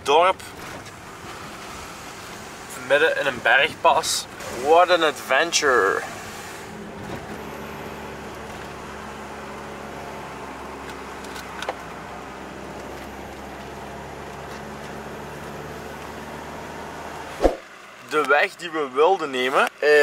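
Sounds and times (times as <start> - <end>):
engine and road noise in cabin: 0.0 - 20.0.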